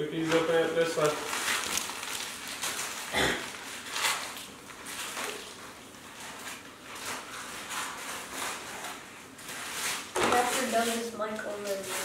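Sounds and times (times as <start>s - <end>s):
wrapping paper crinkling and tearing: 0.2s - 12.0s.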